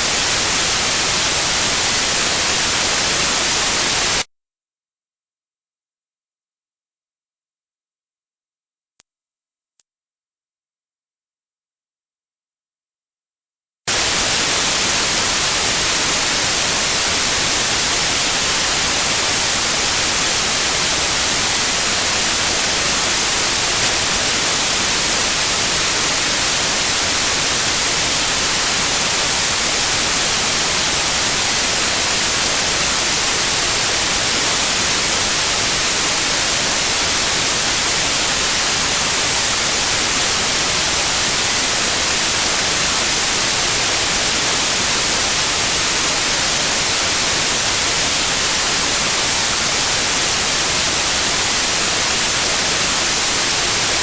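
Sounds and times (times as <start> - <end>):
steady white noise: 0.0 - 4.2, 13.9 - 54.0
high pure tone: 0.0 - 4.3, 13.9 - 54.0.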